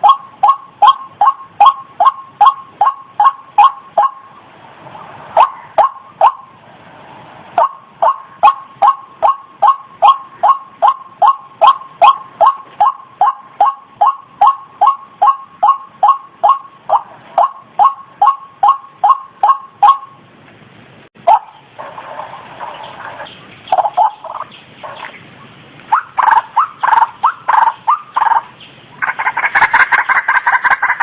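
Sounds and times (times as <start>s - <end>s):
waterhen calling: 0.0s - 6.6s, 7.5s - 20.2s, 21.2s - 31.0s.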